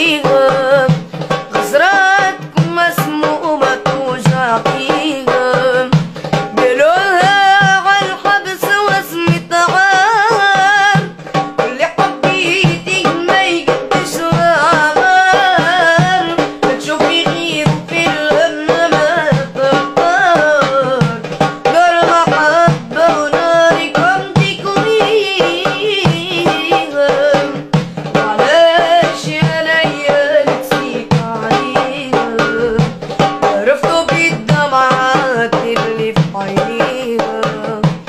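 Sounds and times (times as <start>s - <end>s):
boy singing: 0.0s - 38.0s
goblet drum rhythm: 0.0s - 38.0s.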